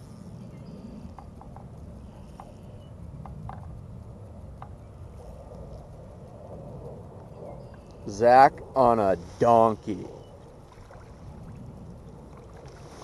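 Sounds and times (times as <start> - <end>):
wind rumbling over microphone: 0.0 - 13.0.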